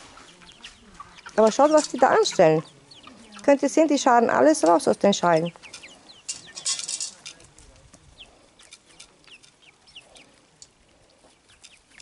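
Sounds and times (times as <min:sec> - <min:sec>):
chicks peeping and clucking: 0:00.0 - 0:12.0.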